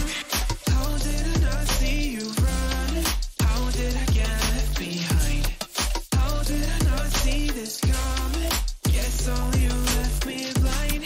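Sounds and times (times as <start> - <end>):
electronic music with deep kicks: 0.0 - 11.0.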